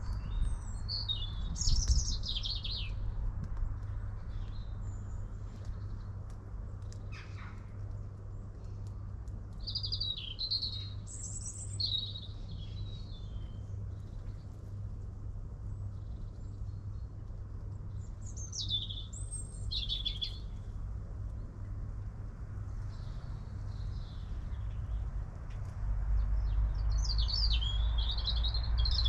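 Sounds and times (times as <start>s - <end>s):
low steady rumble: 0.0s - 27.0s
songbirds chirping: 0.0s - 29.0s.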